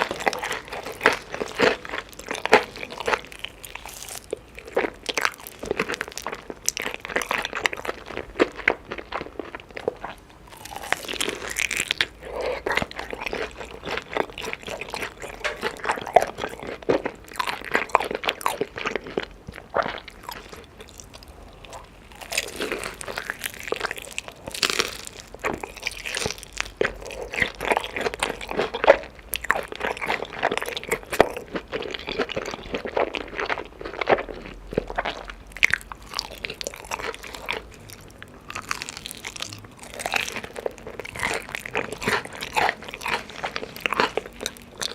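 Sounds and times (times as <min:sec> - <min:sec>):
chicken being chewed: 0:00.0 - 0:44.9.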